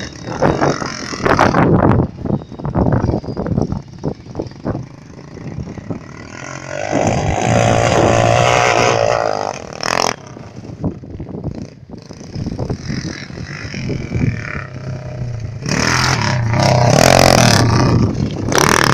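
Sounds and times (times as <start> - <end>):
small motorbike engine revving: 0.0 - 1.8, 4.5 - 10.8, 11.5 - 18.9.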